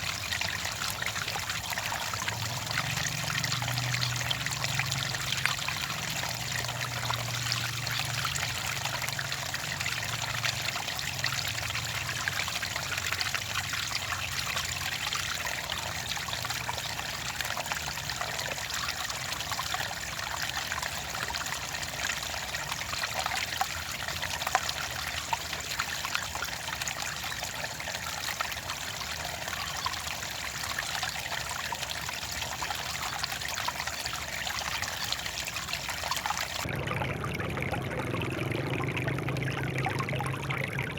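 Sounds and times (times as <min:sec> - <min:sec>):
water running and trickling: 0:00.0 - 0:36.7.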